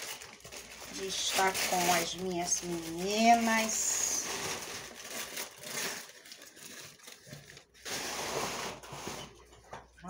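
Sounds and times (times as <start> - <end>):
rustling and crinkling of seedlings: 0.0 - 9.7.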